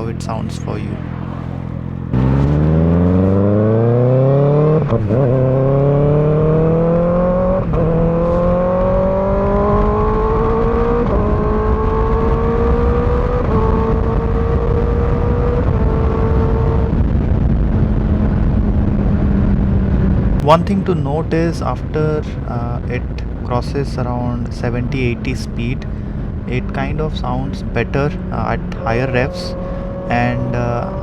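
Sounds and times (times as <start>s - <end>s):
motorcycle accelerating and shifting: 0.0s - 31.0s
wind noise: 3.3s - 31.0s.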